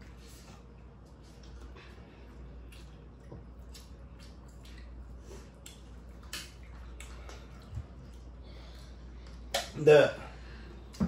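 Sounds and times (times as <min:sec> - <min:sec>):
wet squishy chewing: 0:00.0 - 0:09.8.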